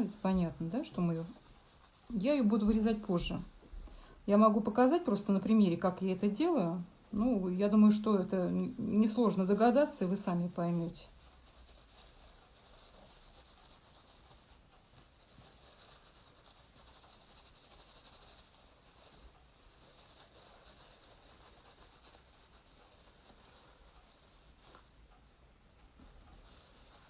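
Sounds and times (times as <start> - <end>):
hands rubbing wool: 0.0 - 27.0.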